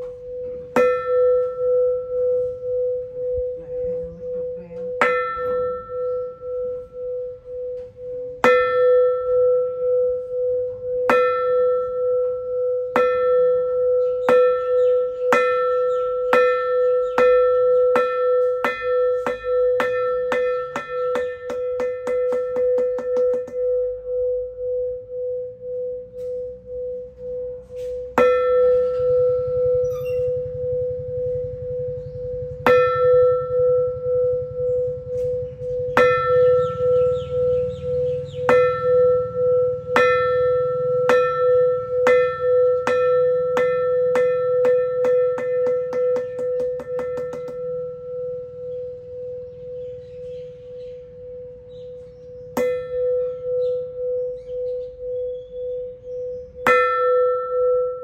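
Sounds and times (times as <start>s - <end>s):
deep wavering bell hum: 0.0s - 58.0s
metal temple bell struck with mallet: 0.0s - 58.0s.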